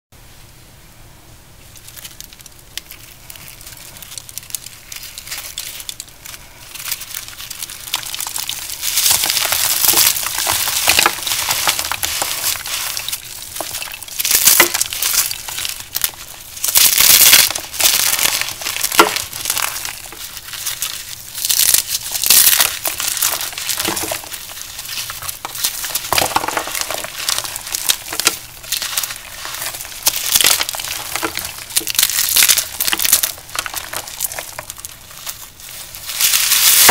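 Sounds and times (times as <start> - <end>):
powder blocks crunching and crumbling: 1.8 - 36.9.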